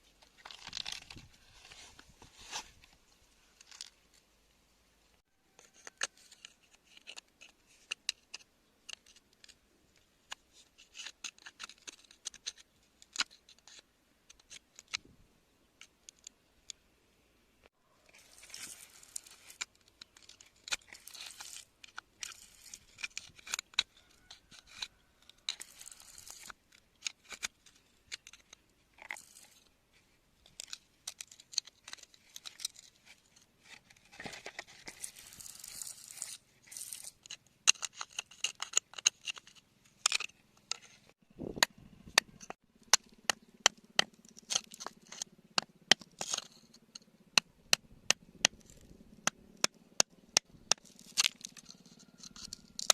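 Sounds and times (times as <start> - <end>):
crunching and scraping: 0.0 - 4.3, 5.4 - 15.1, 17.6 - 52.9.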